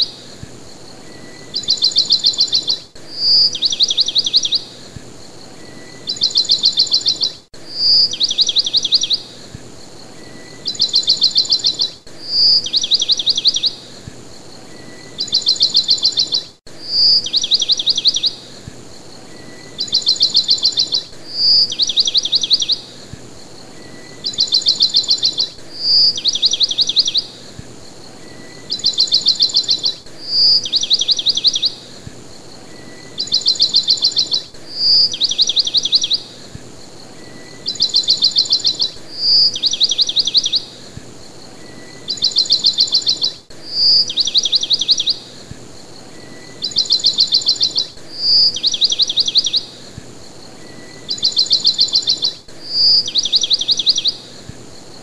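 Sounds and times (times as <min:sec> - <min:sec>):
bird chirping and trilling: 0:00.8 - 0:55.0.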